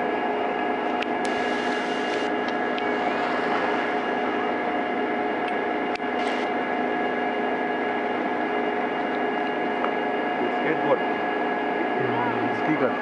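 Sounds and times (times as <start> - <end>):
steady tonal hum and hiss: 0.0 - 13.0.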